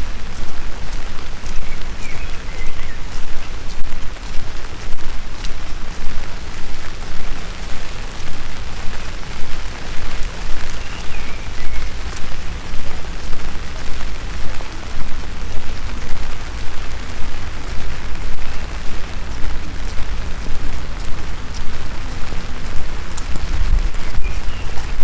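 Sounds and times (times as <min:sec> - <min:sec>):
sharp drips: 0:00.0 - 0:25.0
steady rain falling: 0:00.0 - 0:25.0.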